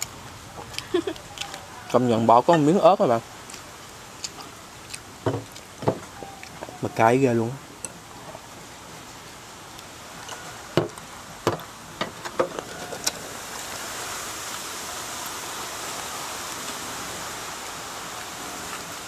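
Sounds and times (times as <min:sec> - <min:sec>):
wind through palm fronds: 0:00.0 - 0:19.0.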